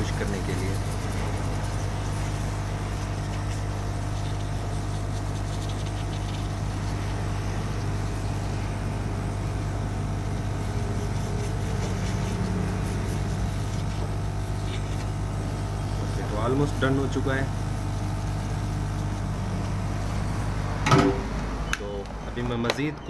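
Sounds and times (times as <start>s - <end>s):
hot air station blowing: 0.0s - 22.7s.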